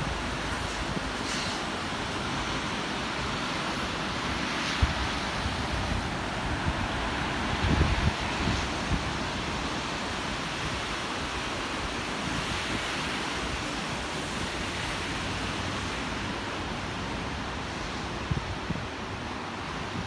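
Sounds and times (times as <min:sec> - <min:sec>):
flooded river rushing: 0:00.0 - 0:20.0.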